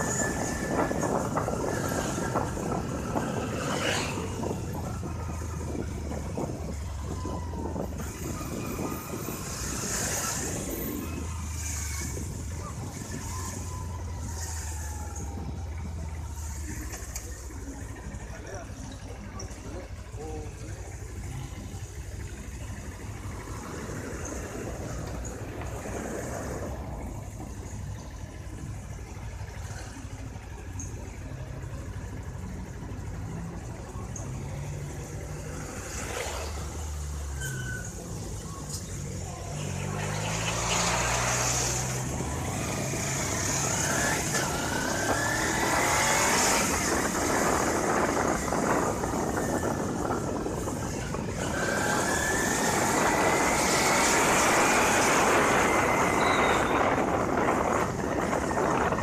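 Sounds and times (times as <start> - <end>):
street traffic: 0.0 - 59.0
vehicle engine: 0.0 - 59.0
wind and road noise: 0.0 - 59.0.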